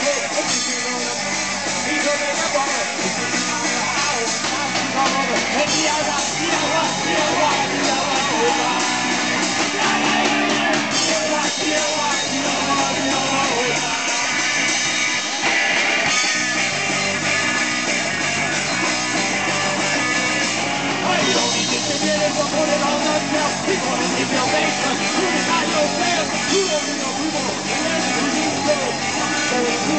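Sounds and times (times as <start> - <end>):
bass guitar: 0.0 - 29.9
drums: 0.0 - 29.9
electric guitar: 0.0 - 29.9.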